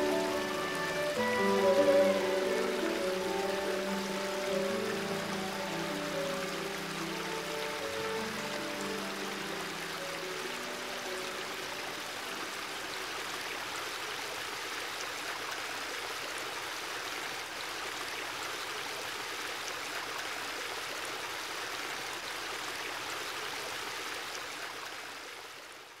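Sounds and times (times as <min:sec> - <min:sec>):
stream babbling over rocks: 0:00.0 - 0:26.0.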